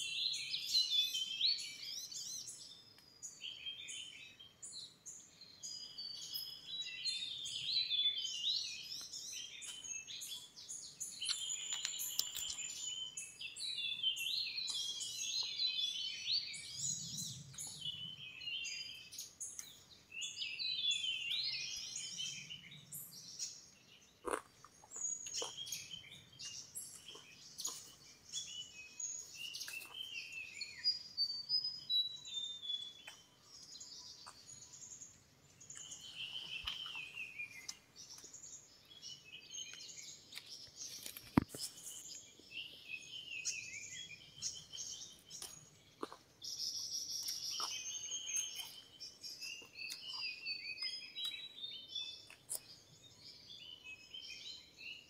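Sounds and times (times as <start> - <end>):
birds chirping and whistling: 0.0 - 55.0.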